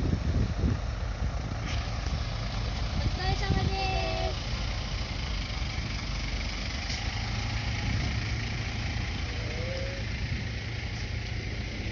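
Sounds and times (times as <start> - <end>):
truck engine running low rumble: 0.0 - 11.9.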